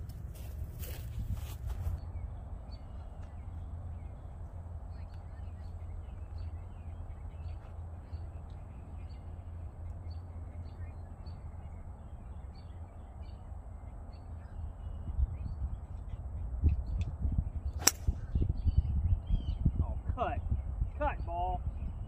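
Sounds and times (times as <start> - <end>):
wind rumbling on microphone: 0.0 - 22.0
birds chirping and calling: 0.4 - 22.0.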